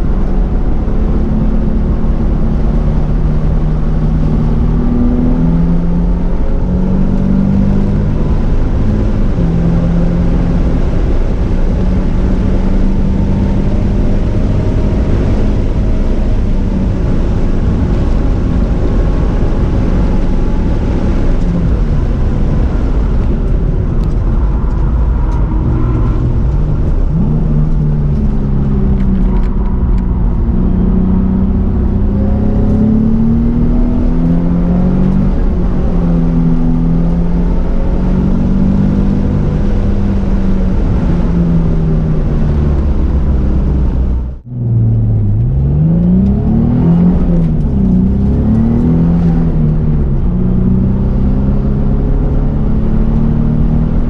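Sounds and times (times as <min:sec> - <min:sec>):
car engine at full throttle: 0:00.0 - 0:54.0
road and wind noise: 0:00.0 - 0:54.0.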